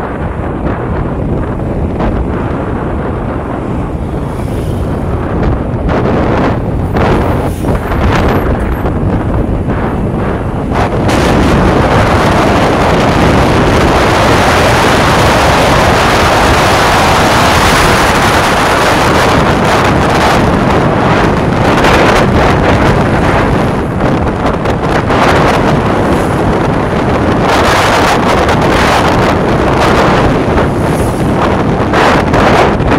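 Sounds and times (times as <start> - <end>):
vehicle running and road noise: 0.0 - 32.9
wind buffeting microphone: 0.0 - 32.9.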